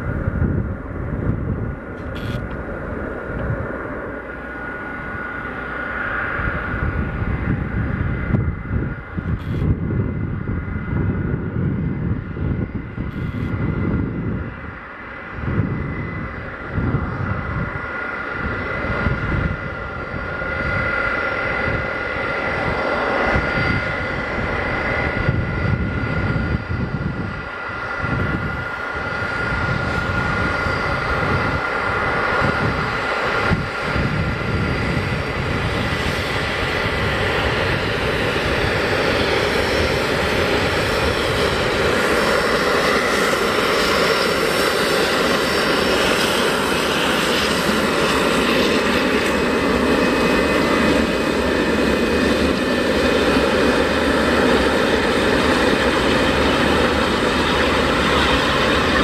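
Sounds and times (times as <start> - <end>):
high jet whine: 0.0 - 59.0
jet engine roar: 0.0 - 59.0.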